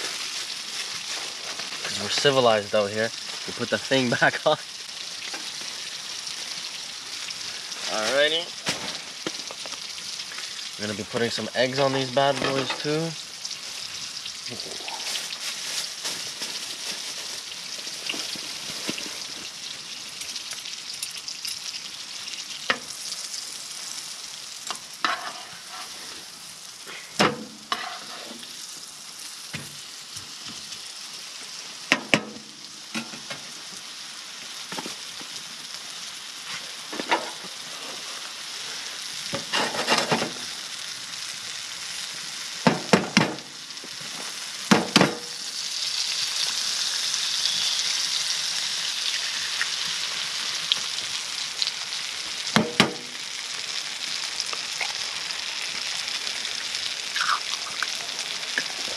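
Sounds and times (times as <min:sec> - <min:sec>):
patties sizzling in a frying pan: 0:00.0 - 0:58.9.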